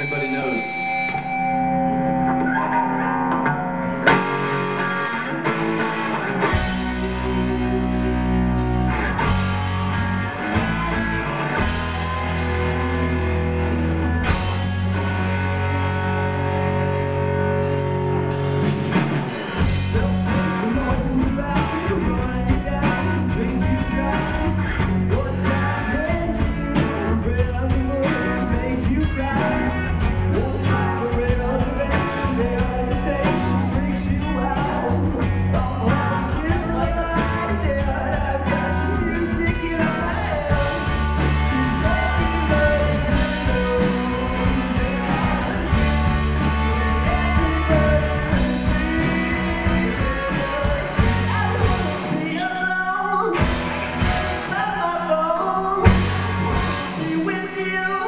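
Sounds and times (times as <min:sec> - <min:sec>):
bass guitar: 0:00.0 - 0:58.0
electric guitar: 0:00.0 - 0:58.0
drum kit: 0:02.2 - 0:58.0.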